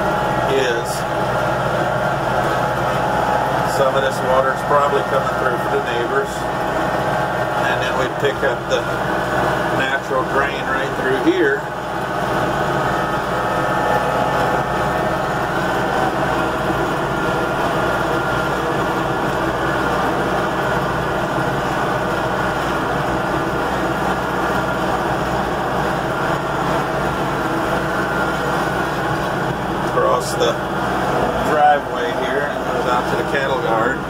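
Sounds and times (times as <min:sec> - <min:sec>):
vehicle engine humming: 0:00.0 - 0:34.0.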